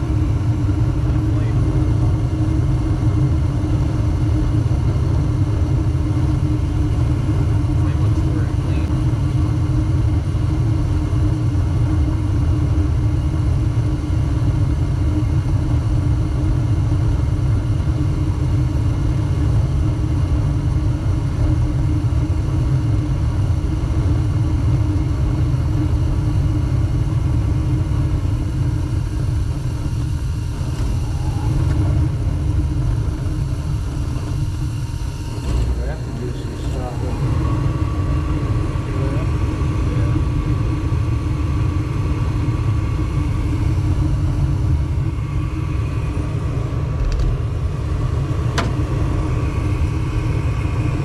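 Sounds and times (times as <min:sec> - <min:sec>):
gas furnace rumbling: 0:00.0 - 0:51.0.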